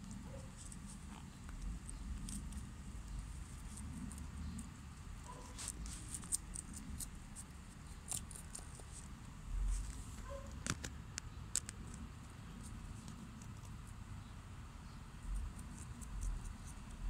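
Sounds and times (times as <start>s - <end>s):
rabbits crunching lettuce: 0.0s - 17.0s.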